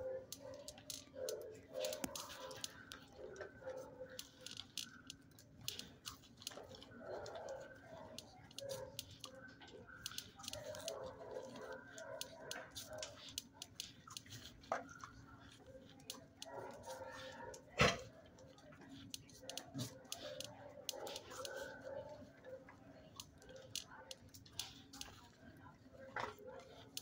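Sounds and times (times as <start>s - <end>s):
dog chewing and smacking: 0.0s - 27.0s.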